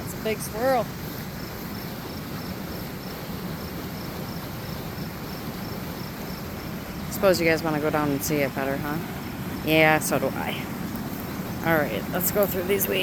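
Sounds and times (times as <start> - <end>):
insect chirping: 0.0 - 13.0
water rushing over dam: 0.0 - 13.0.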